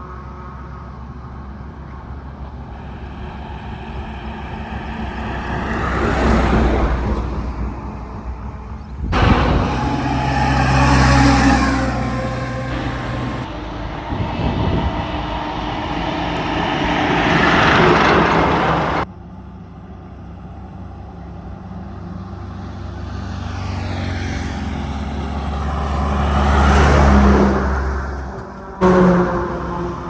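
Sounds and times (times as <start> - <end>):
diesel trucks passing: 0.3 - 19.1, 20.2 - 30.0.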